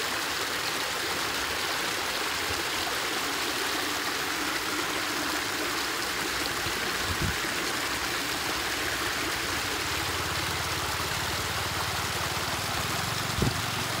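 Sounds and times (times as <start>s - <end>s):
floodwater rushing over edge: 0.0s - 14.0s.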